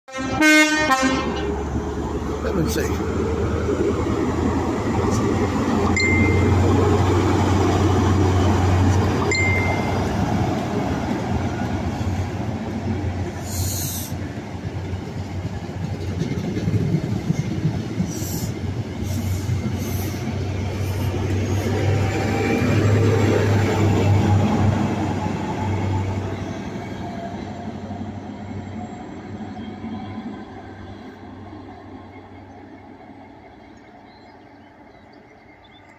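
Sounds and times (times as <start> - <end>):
coaches rumbling on the track: 0.1 - 35.9
diesel train engines droning: 0.1 - 35.9.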